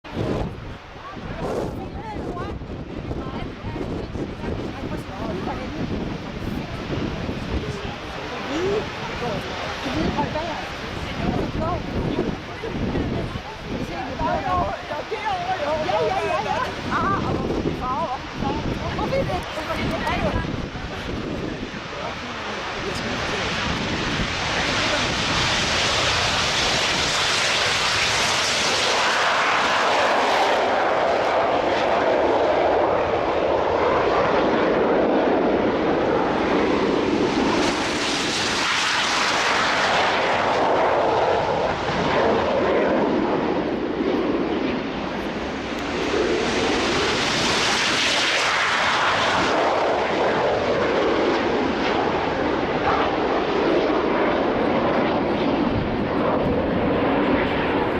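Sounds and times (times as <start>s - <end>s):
propeller aircraft flying overhead: 0.1s - 57.9s.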